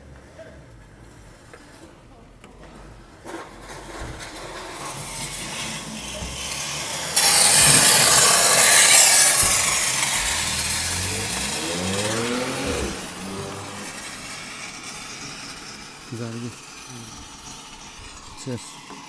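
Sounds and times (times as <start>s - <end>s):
vehicle moving off with rasping noise: 0.0s - 19.0s
engine revving: 2.6s - 19.0s.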